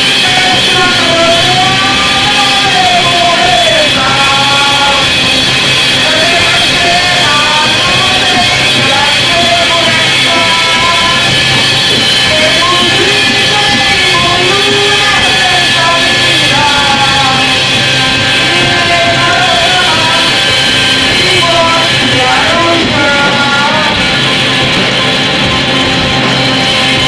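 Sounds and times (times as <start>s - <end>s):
loud distorted noise music: 0.0s - 27.0s.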